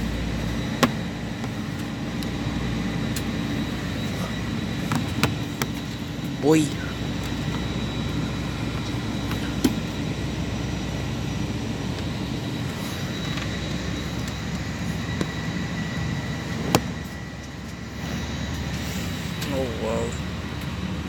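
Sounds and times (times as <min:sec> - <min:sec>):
jet engines low rumble: 0:00.0 - 0:21.0.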